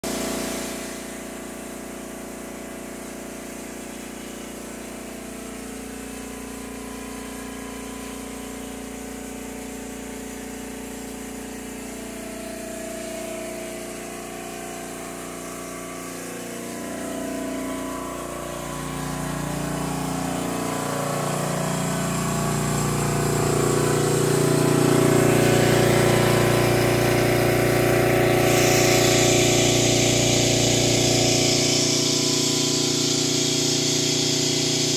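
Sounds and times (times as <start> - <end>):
generator engine running: 0.0 - 34.9.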